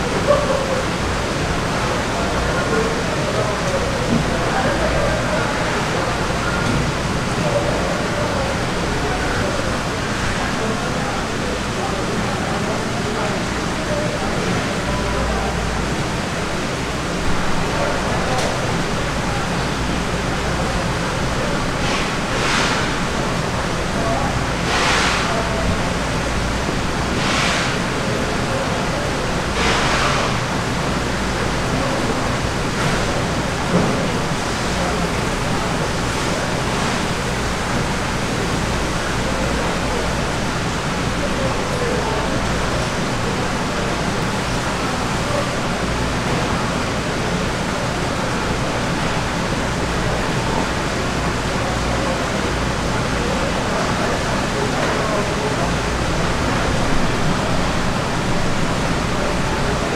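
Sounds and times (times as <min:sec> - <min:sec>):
rushing market noise: 0:00.0 - 0:59.9.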